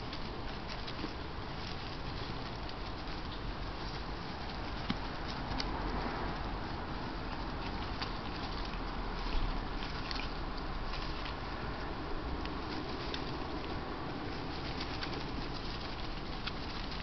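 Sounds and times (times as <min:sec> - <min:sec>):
fox cubs scuffling in dry grass: 0:00.0 - 0:17.0.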